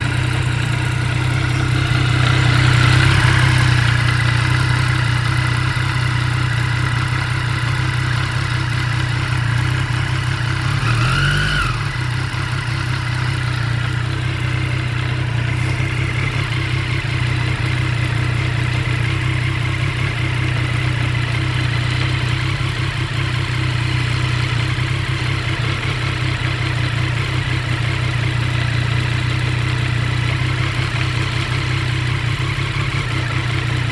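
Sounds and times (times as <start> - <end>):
engine grinding noise: 0.0 - 29.6
motorcycle engine idling: 0.0 - 33.9.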